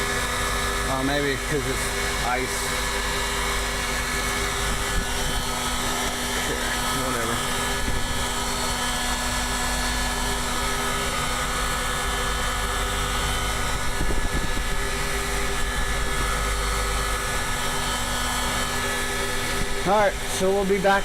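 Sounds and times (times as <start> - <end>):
fan hum: 0.0 - 21.0
heat guns whirring: 0.0 - 21.0.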